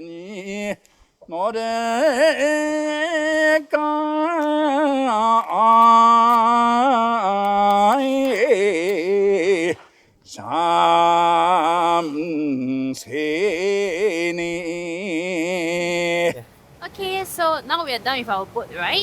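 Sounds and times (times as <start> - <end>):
man singing unaccompanied: 0.0 - 16.6.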